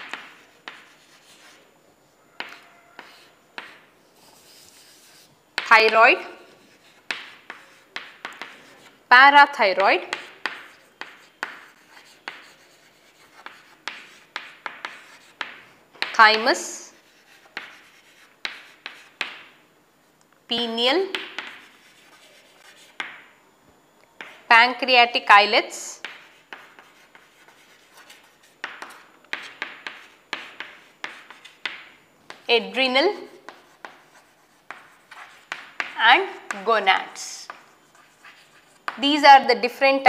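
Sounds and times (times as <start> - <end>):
chalk writing on chalkboard: 0.0 - 9.0, 9.6 - 19.6, 21.1 - 23.2, 26.0 - 39.1.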